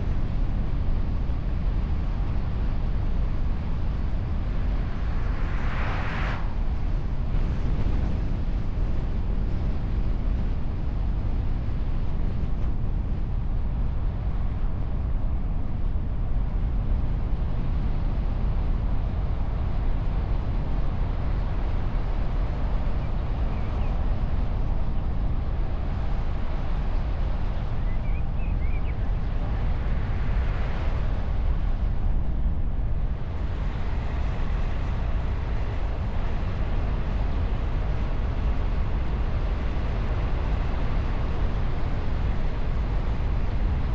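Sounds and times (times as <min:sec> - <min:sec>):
wind noise: 0:00.0 - 0:43.9.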